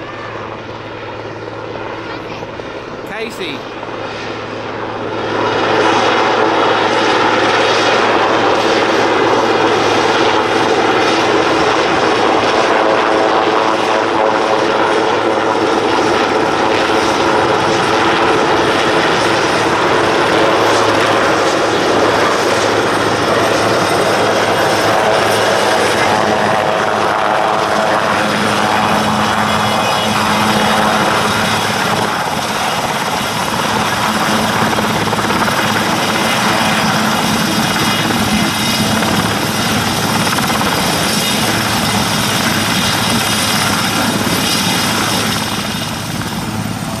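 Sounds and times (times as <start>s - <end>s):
helicopter rotors and engines: 0.0s - 47.0s.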